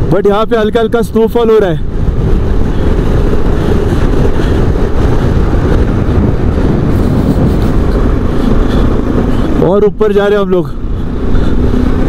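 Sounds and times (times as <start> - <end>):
wind buffeting microphone: 0.0 - 12.0
motorcycle engine running: 1.8 - 12.0.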